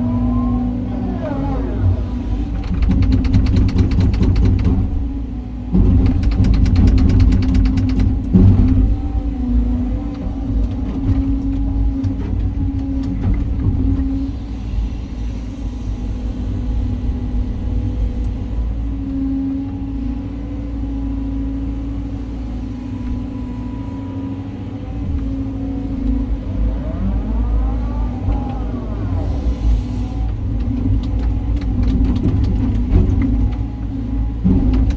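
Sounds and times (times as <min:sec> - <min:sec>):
excavator diesel engine rumble: 0:00.0 - 0:34.9
hydraulic whine: 0:00.0 - 0:34.9.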